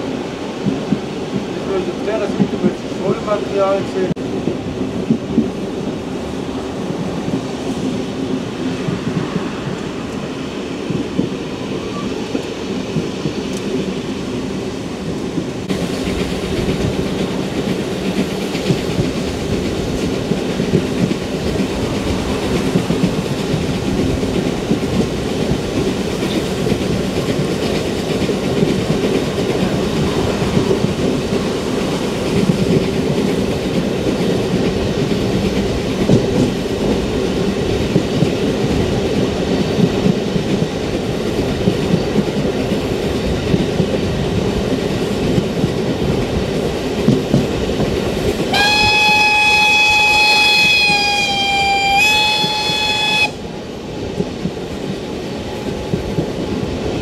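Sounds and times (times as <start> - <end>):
train clicks: 0.0 - 57.0
train rolling rumble: 0.0 - 57.0.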